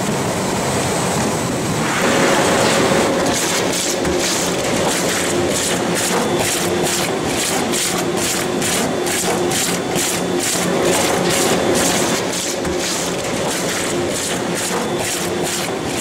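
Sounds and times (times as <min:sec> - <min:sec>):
motor hum: 0:02.4 - 0:16.0.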